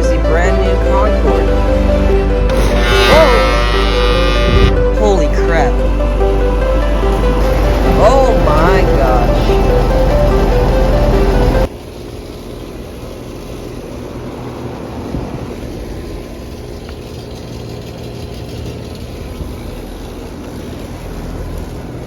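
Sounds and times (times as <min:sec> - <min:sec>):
hvac units humming: 0:00.0 - 0:22.0.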